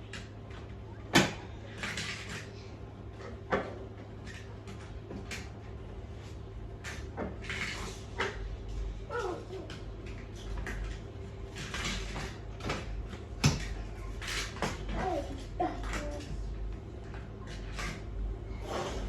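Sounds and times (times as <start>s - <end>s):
air conditioner clunking: 0.0s - 19.0s.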